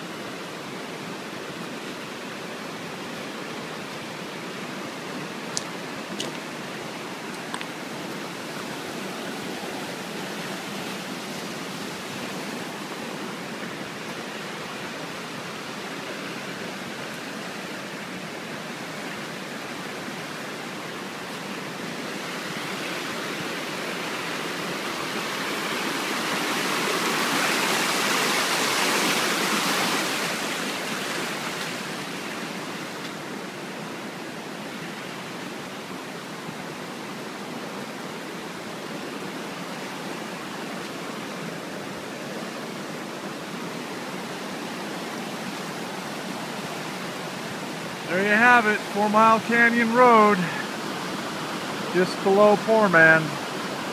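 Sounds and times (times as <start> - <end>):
creek rushing over rocks: 0.0 - 53.9.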